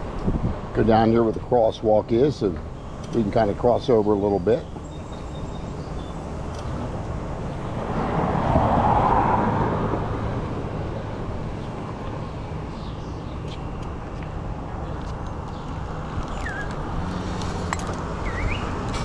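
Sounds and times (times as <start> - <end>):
city traffic noise: 0.0 - 19.0
vehicle passing: 2.5 - 19.0.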